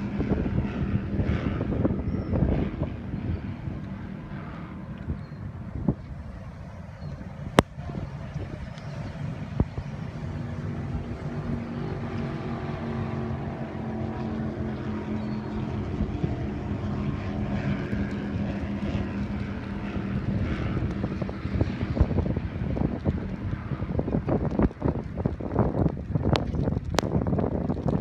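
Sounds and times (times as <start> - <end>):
motor engine droning: 0.0 - 27.1
wind buffeting microphone: 0.0 - 28.0.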